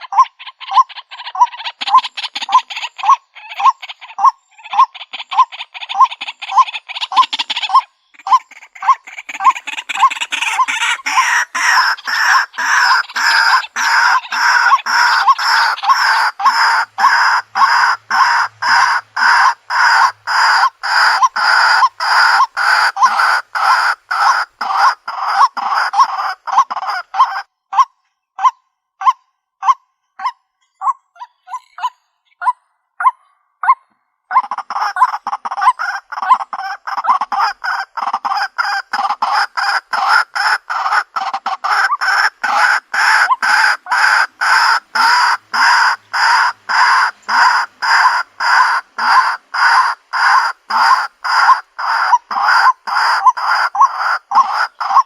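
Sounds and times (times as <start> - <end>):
waterhen harsh repeated calls: 0.0 - 55.0.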